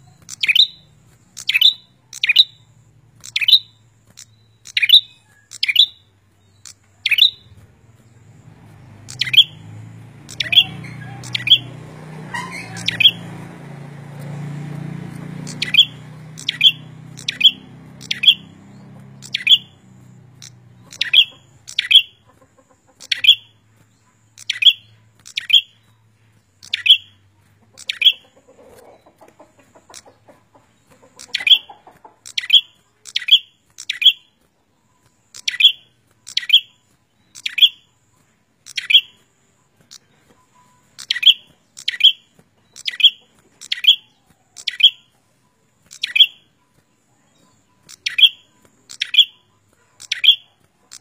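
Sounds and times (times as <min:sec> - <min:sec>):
songbird sharp chip calls: 0:00.0 - 0:08.2, 0:09.0 - 0:13.3, 0:15.1 - 0:45.2, 0:45.8 - 0:51.0.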